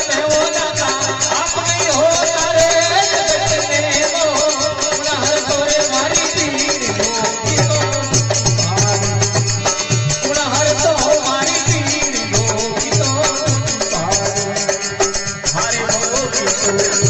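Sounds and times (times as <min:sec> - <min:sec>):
quick percussion: 0:00.0 - 0:17.0.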